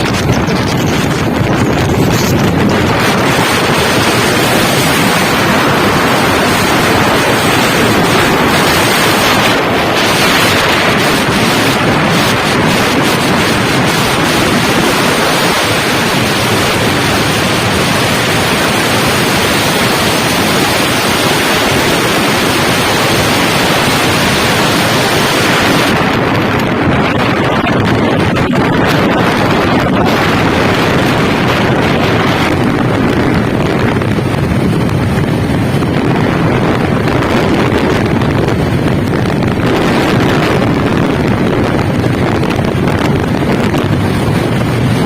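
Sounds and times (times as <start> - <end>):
wind rushing on microphone: 0.0 - 45.0.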